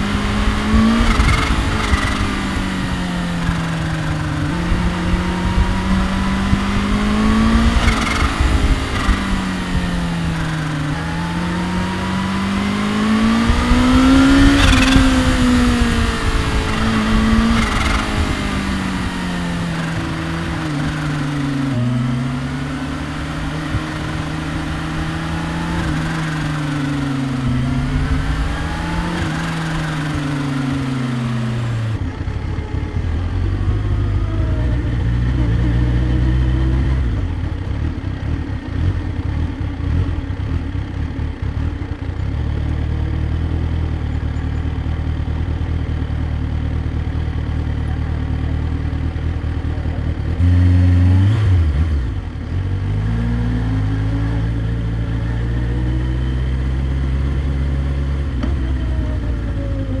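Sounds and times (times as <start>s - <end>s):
motorcycle engine: 0.0s - 60.0s
road and wind noise: 0.0s - 60.0s.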